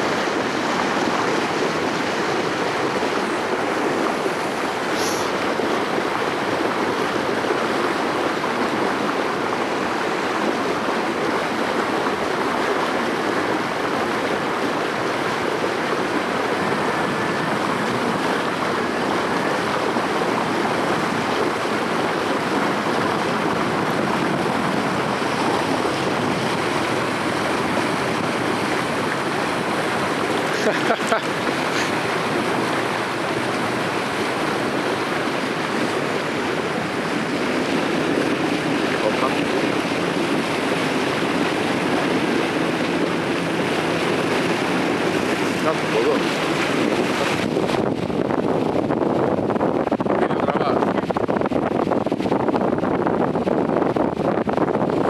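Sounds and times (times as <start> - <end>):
water rushing along a hull: 0.0 - 55.0.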